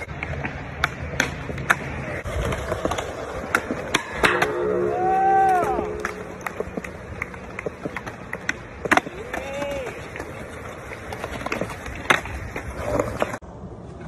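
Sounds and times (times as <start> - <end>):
skateboard clacking: 0.0 - 14.0
skateboard wheels rolling on concrete: 0.0 - 14.0.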